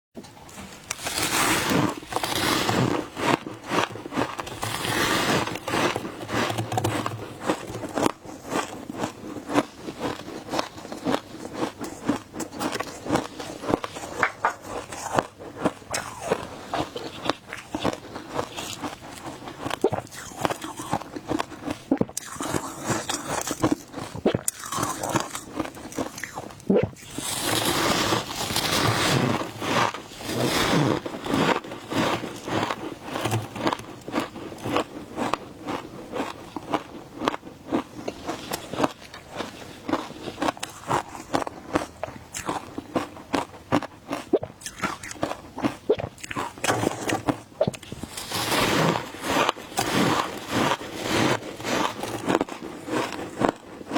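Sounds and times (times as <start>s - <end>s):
chewing and crunching ice: 0.5s - 53.9s.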